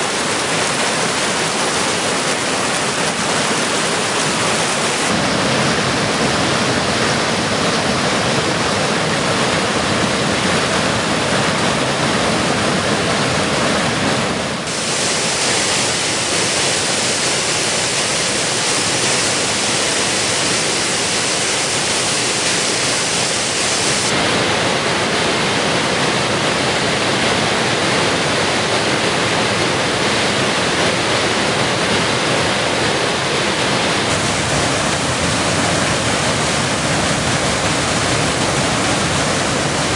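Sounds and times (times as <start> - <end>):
waterfall pouring: 0.0 - 11.2, 14.6 - 39.9
stream rushing over rocks: 0.0 - 39.9.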